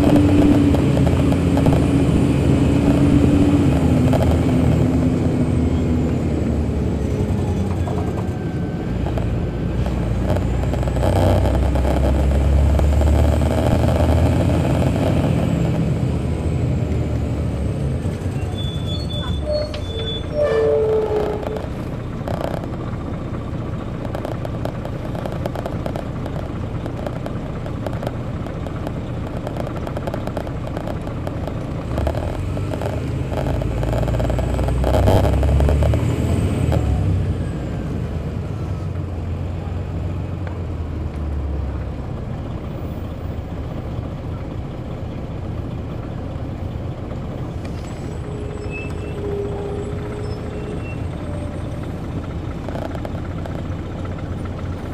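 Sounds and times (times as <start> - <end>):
bus engine droning: 0.0 - 54.9.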